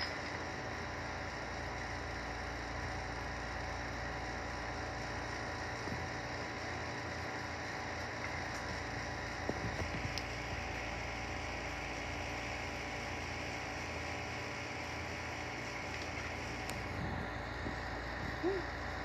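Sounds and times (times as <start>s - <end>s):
mechanical hum with hiss: 0.0s - 19.0s.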